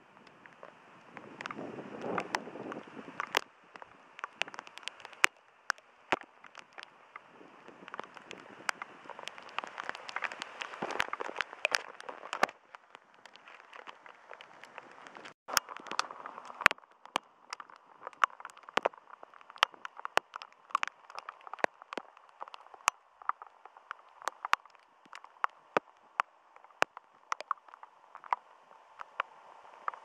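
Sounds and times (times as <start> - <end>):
rain hiss: 0.0 - 30.0
raindrops tapping: 0.2 - 30.0.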